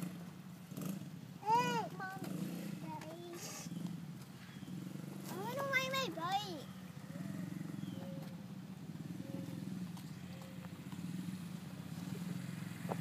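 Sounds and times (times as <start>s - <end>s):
small atv engine buzzing: 0.0s - 13.0s.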